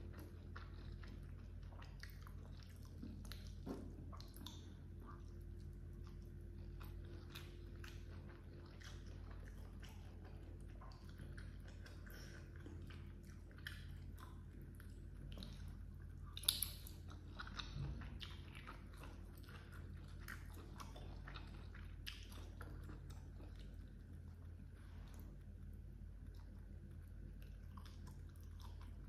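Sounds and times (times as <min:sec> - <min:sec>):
close chewing and crunching: 0:00.0 - 0:29.0
steady low hum: 0:00.0 - 0:29.0.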